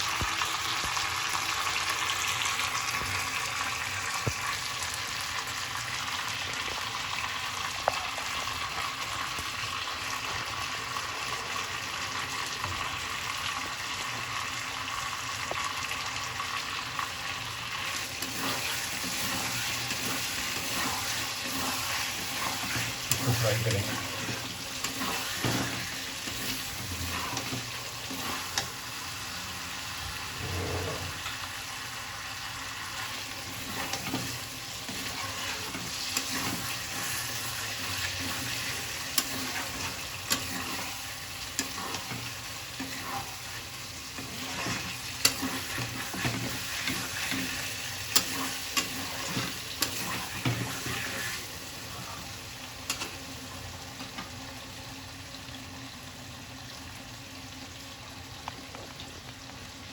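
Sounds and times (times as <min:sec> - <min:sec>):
food sizzling in hot oil: 0:00.0 - 0:59.9.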